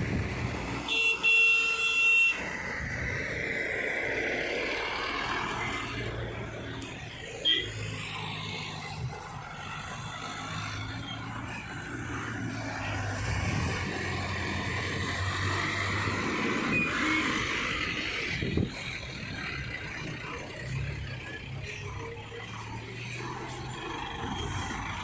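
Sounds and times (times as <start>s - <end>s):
diesel engines droning: 0.0s - 25.0s.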